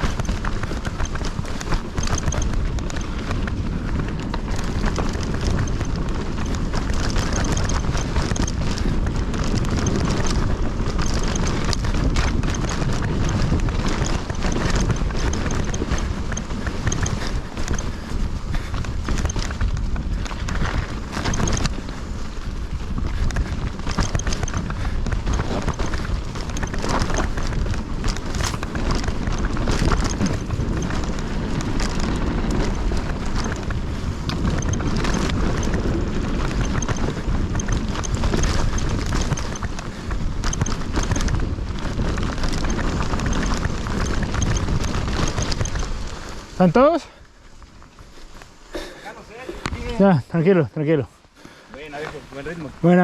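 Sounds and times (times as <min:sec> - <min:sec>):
bike chain and frame rattling: 0:00.0 - 0:50.7
bike tyres over dirt and rocks: 0:00.0 - 0:53.0
wind rumble on microphone: 0:00.0 - 0:53.0.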